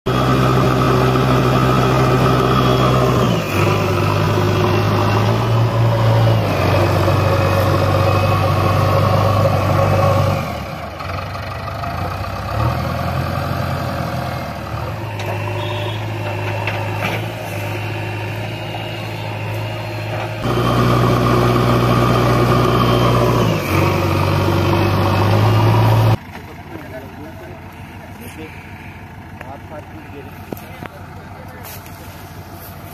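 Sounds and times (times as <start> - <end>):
diesel engine running hard: 0.0 - 32.9.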